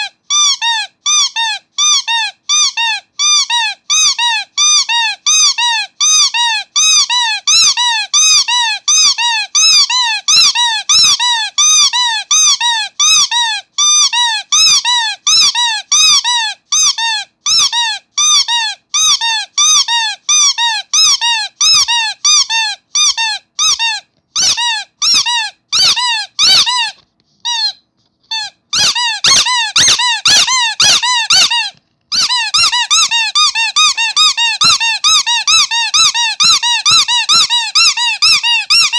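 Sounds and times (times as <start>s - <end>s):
squeaky toy squeaking: 0.0s - 38.9s.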